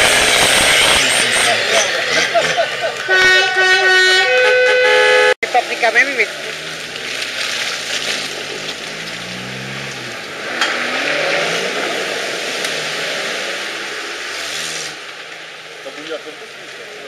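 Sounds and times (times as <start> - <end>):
off-road engine revving under load: 0.0 - 15.1.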